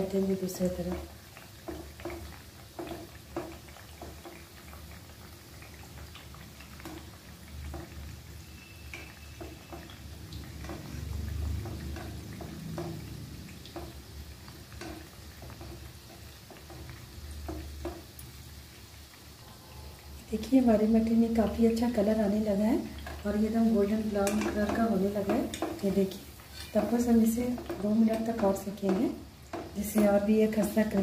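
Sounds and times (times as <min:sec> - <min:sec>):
skimmer scraping and tapping pan: 0:00.0 - 0:18.4, 0:21.0 - 0:31.0
frying in hot oil: 0:00.0 - 0:31.0.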